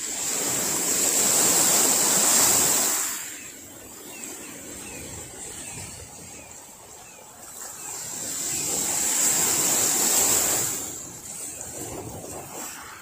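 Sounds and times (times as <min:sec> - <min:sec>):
waves washing on pebble beach: 0:00.0 - 0:13.0.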